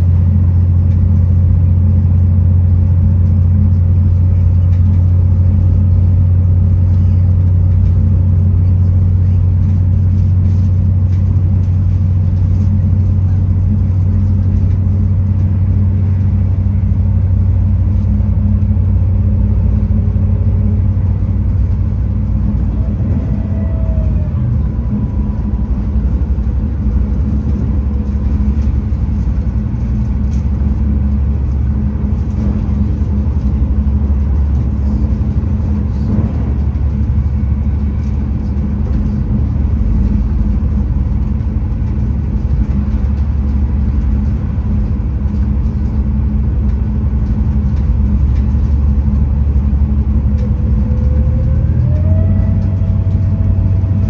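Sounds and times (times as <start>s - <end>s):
diesel engine drone: 0.0s - 54.0s
wheel-on-rail rumble: 0.0s - 54.0s.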